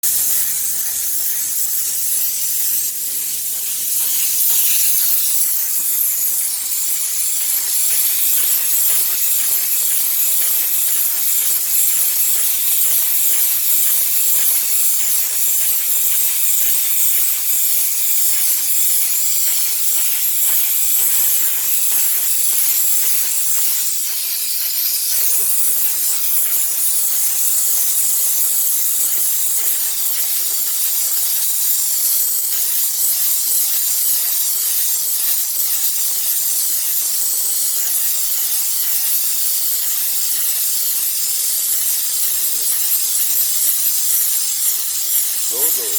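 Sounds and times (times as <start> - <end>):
steam cleaner jet hissing: 0.0 - 45.9.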